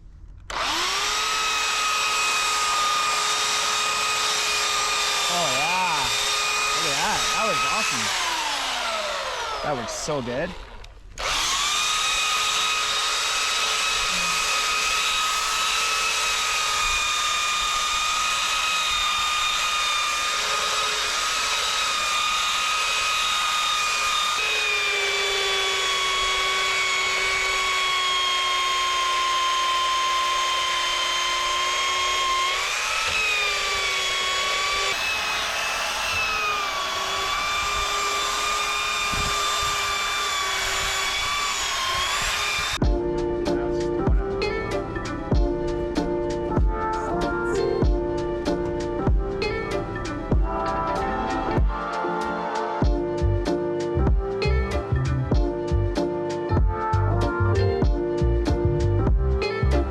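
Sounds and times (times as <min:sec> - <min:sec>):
power saw cutting lumber: 0:00.5 - 0:59.9.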